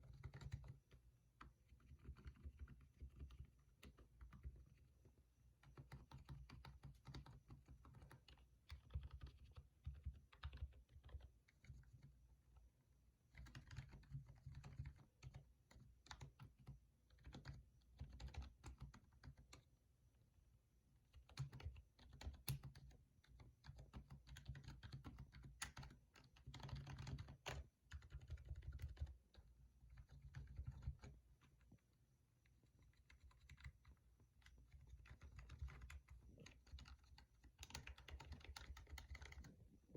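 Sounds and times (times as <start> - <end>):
soft keyboard typing: 0.0 - 19.8, 20.9 - 39.9.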